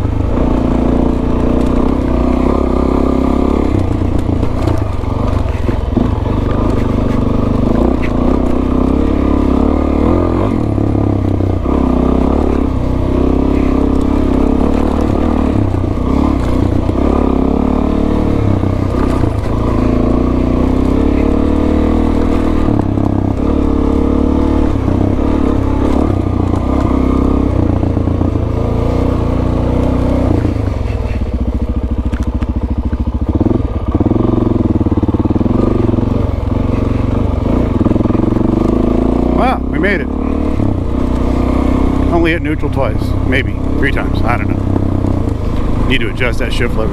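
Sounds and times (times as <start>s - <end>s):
motorcycle engine under load: 0.0s - 46.9s.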